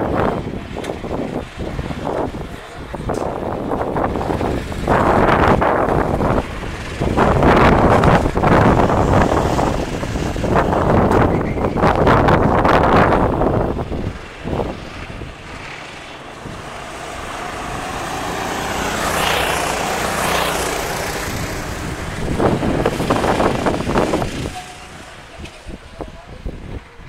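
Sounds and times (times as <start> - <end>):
go-kart engine driving past: 0.0 - 26.9
wind buffeting microphone: 0.0 - 27.0.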